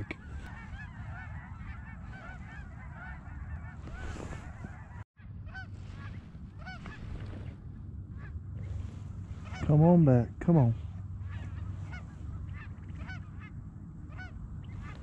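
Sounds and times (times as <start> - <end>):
geese honking: 0.0 - 15.0.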